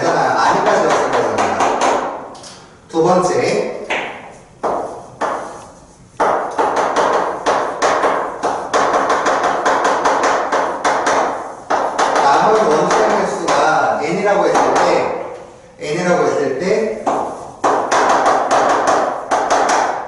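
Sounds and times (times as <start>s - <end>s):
chalk tapping on blackboard: 0.4s - 2.2s, 3.9s - 15.5s, 16.9s - 20.0s.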